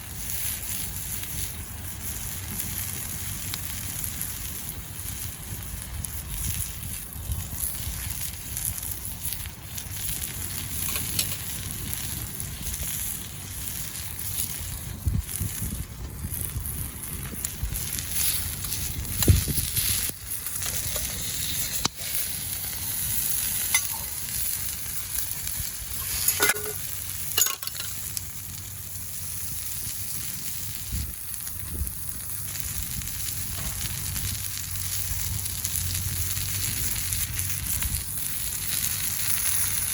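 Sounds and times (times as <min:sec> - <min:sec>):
meat sizzling in a pan: 0:00.0 - 0:39.9
wood fire crackling: 0:00.0 - 0:39.9.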